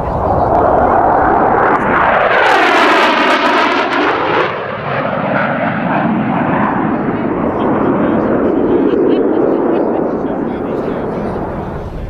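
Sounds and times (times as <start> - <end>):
jet aircraft passing by: 0.0 - 12.0.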